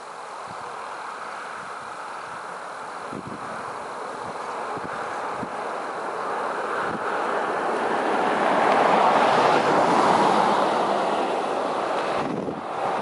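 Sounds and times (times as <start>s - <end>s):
wind gust rushing: 1.5s - 13.0s.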